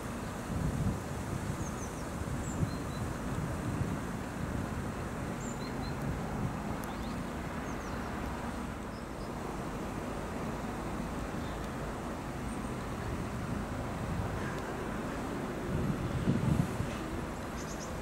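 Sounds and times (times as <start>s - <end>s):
outdoor noise: 0.0s - 18.0s
distant trains rumbling: 1.2s - 18.0s.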